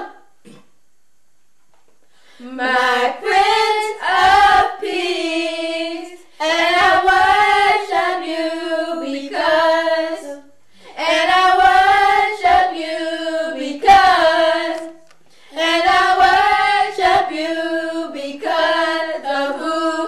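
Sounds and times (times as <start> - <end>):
person singing unaccompanied: 2.4 - 20.0.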